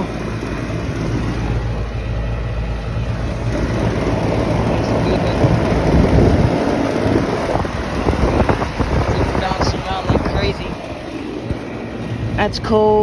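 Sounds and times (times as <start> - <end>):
air rushing and handling noise: 0.0 - 12.6
air conditioner unit humming: 0.0 - 13.0.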